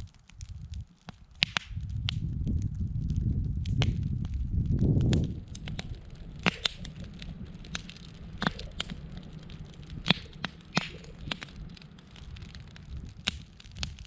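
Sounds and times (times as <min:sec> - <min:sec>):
campfire pops and snaps: 0:00.0 - 0:14.0.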